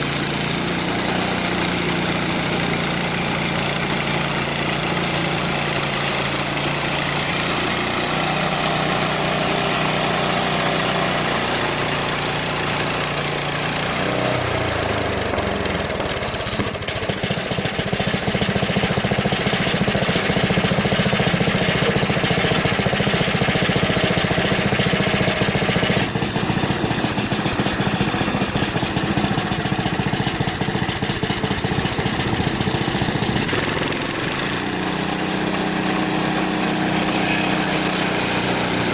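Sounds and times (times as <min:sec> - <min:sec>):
small gas engine running: 0:00.0 - 0:38.9.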